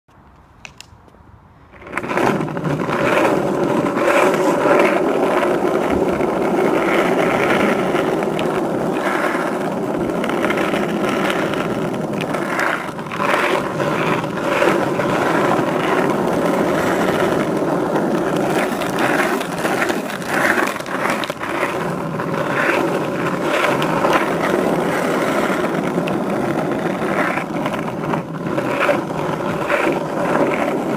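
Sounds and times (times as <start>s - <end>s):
skateboard clicks and knocks: 0.1s - 30.9s
skateboard wheels rolling on pavement: 0.1s - 30.9s.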